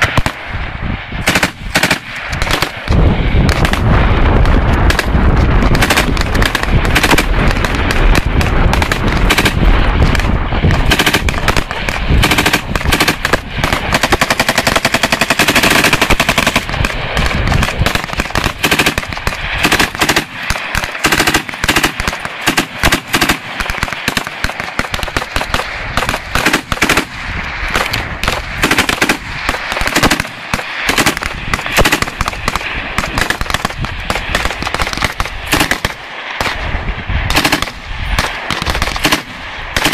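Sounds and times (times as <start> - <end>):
machine gun firing bursts: 1.2 - 36.6, 37.3 - 39.9.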